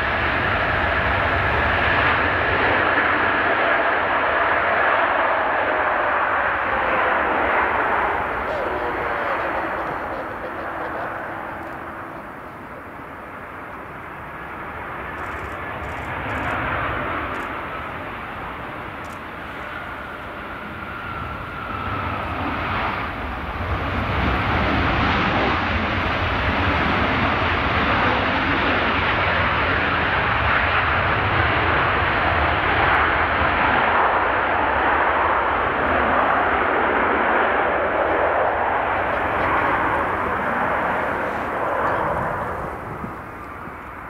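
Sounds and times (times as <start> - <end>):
jet engines whining on landing: 0.0 - 44.0.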